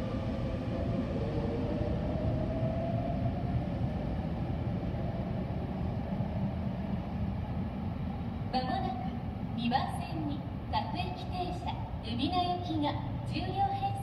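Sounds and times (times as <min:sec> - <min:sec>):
electric train running rumble: 0:00.0 - 0:14.0.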